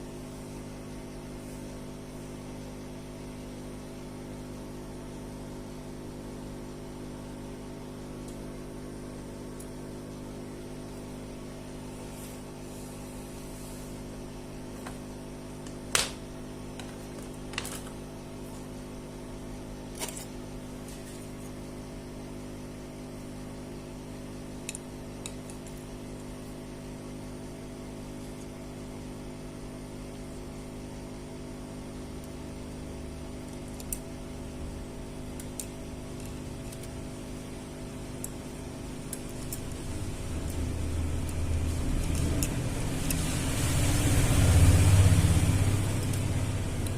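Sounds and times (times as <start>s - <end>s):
steady multi-pitched hum: 0.0s - 46.9s.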